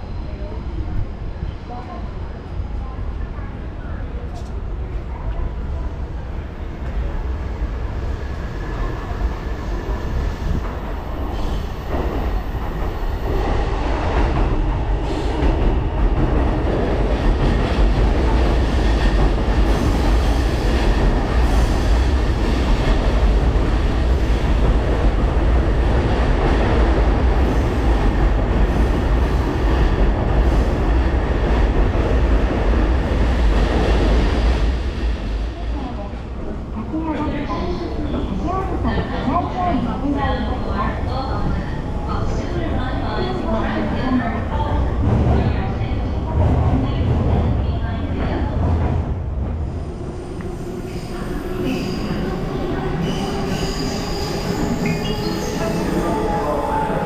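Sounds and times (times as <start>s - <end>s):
electric train rumbling on rails: 0.0s - 57.0s.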